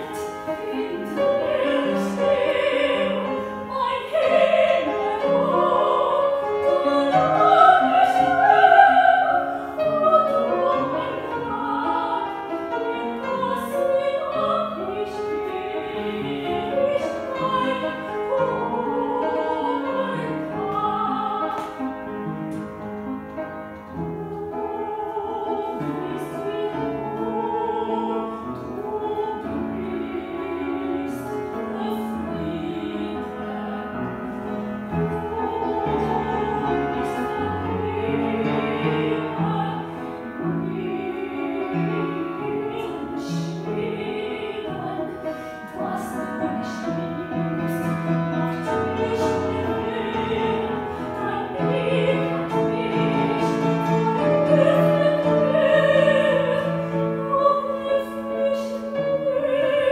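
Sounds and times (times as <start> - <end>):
woman singing classically: 0.0 - 21.9, 24.5 - 59.9
piano accompaniment: 0.0 - 59.9.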